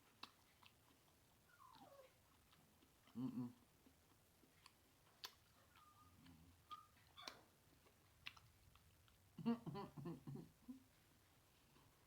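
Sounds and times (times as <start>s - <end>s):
mouth clicks and smacks chewing: 0.0s - 10.6s.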